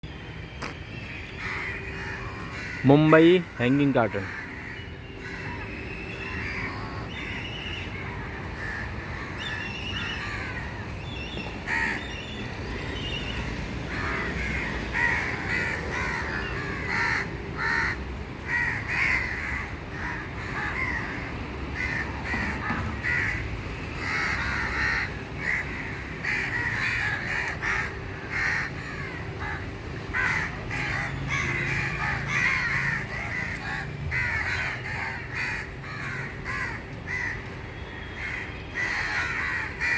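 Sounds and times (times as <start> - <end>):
crows cawing: 1.4 - 12.8, 13.9 - 39.9.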